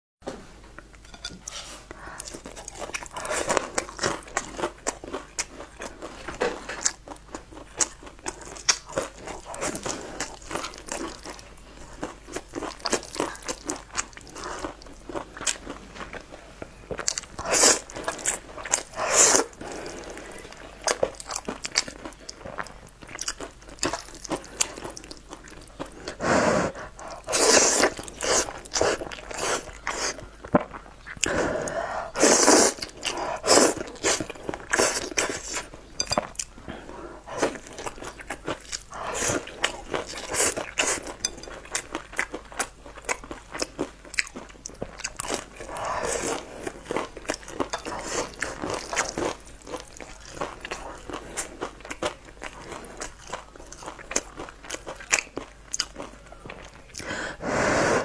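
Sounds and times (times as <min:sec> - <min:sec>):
chewing and crunching food: 0:00.8 - 0:57.1.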